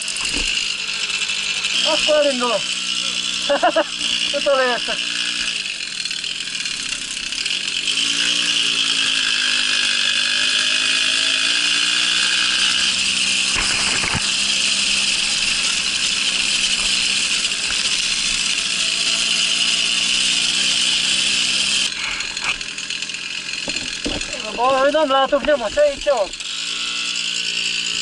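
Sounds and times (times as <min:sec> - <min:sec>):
moped engine running: 0:00.0 - 0:28.0.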